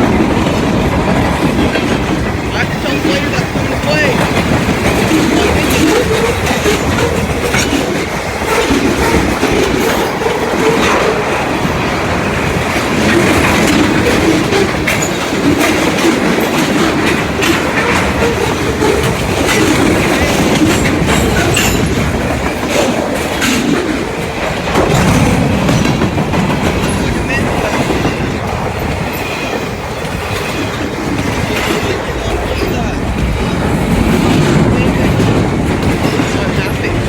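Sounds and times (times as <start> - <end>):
freight train wheels rumbling: 0.0 - 37.0
wheels clicking over rail joints: 0.0 - 37.0.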